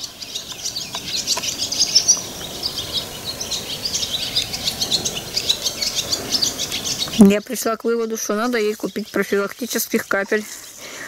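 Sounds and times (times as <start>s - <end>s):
low steady outdoor hum: 0.0s - 11.0s
songbirds chirping and twittering: 0.0s - 11.0s.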